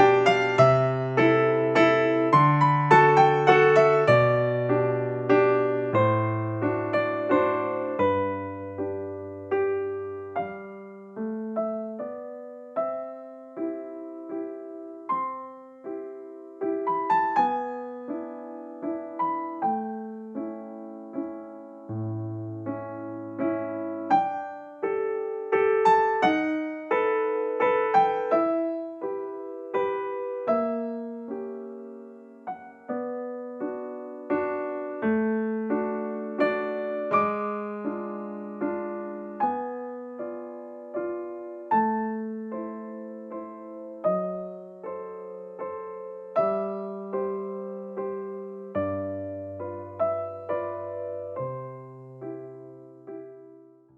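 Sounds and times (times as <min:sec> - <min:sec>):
gentle piano piece: 0:00.0 - 0:53.9.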